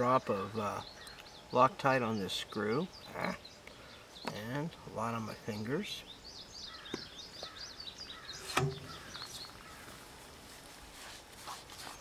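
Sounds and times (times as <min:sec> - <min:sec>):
faint bird chirping: 0:00.0 - 0:10.7.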